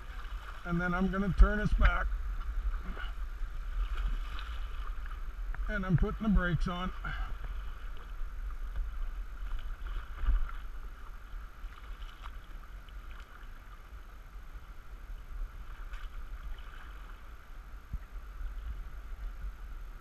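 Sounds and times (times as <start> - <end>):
low steady rumble: 0.0 - 20.0
water rushing around canoe: 0.0 - 20.0.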